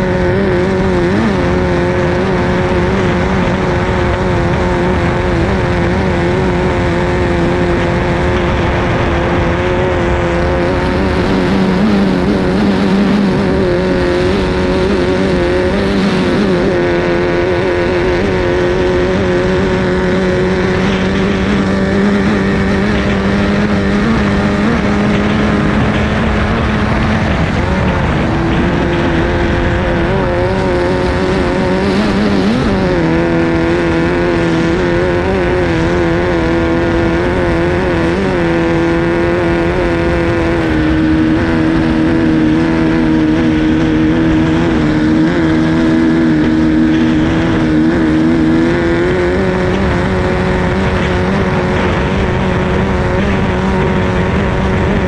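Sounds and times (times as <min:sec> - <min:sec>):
racing boat engine running hard: 0:00.0 - 0:55.0.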